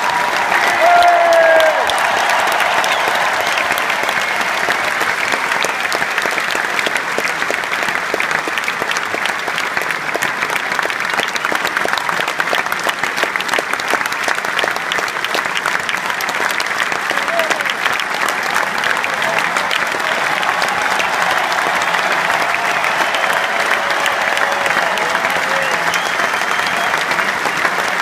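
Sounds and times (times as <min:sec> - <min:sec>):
individual claps close by: 0:00.0 - 0:28.0
stadium crowd applauding: 0:00.0 - 0:28.0.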